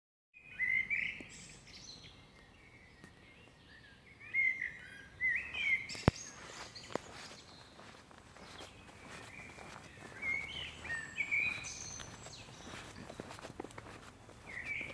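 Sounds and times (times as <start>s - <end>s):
small birds chirping: 0.4s - 14.9s.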